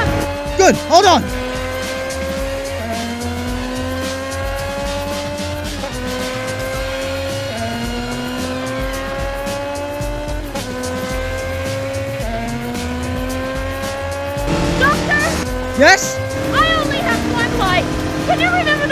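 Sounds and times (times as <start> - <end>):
film score music: 0.0 - 18.9
motorcycle engine accelerating: 0.0 - 18.9.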